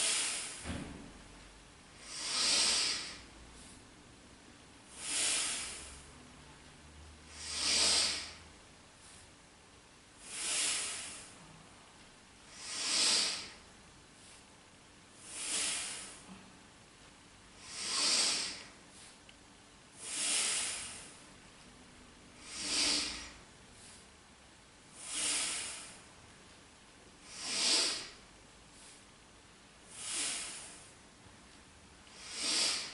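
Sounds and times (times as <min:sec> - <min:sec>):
deep rhythmic breathing: 0:00.0 - 0:01.2, 0:01.9 - 0:16.6, 0:17.4 - 0:24.2, 0:24.9 - 0:26.3, 0:27.1 - 0:29.2, 0:29.8 - 0:31.3, 0:32.0 - 0:32.9.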